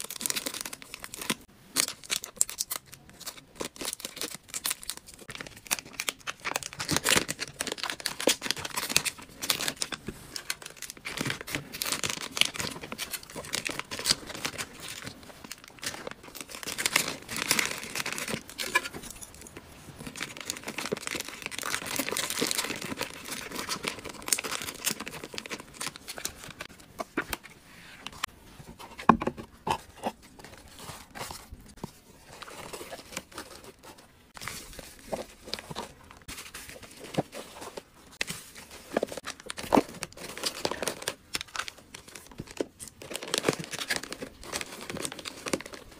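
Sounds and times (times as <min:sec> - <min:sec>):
plastic bags crinkling: 0:00.0 - 0:28.3, 0:29.7 - 0:45.9.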